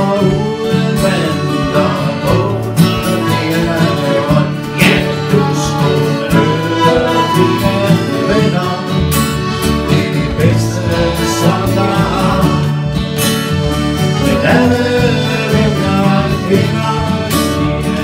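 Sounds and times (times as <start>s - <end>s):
man singing: 0.0s - 13.0s, 14.1s - 18.0s
accordion: 0.0s - 18.0s
acoustic guitars strumming: 0.0s - 18.0s.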